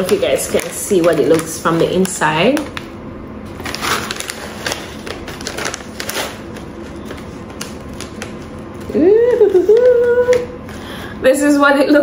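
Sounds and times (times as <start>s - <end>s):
plastic snack packet crinkling: 0.0s - 2.9s, 3.5s - 10.4s.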